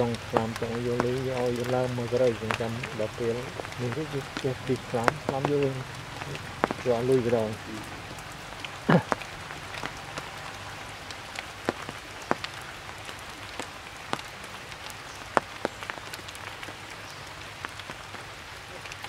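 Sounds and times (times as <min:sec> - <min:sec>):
drops ticking on leaves: 0:00.0 - 0:19.0
rain hissing on foliage: 0:00.0 - 0:19.0.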